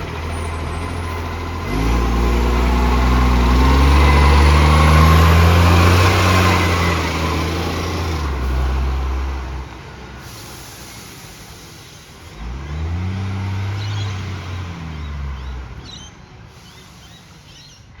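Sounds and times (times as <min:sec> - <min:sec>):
garbage truck engine revving: 0:00.0 - 0:15.9.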